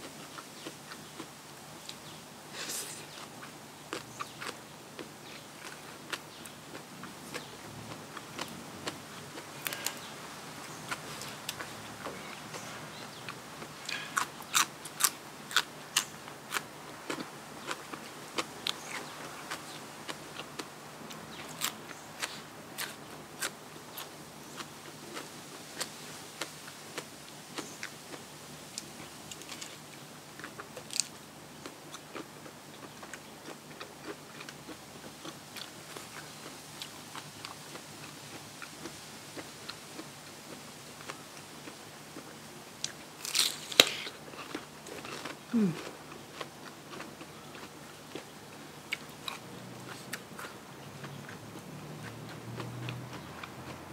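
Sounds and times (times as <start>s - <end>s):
chewing crunchy food: 0.0s - 53.9s.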